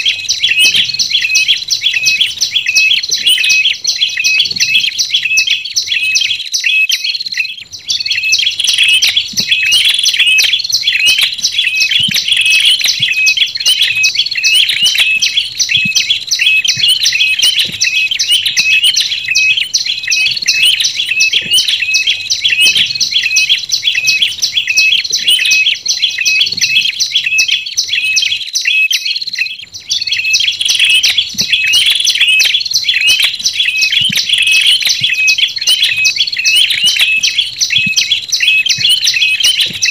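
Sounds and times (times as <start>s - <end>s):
high-pitched bird chirps: 0.0s - 39.9s.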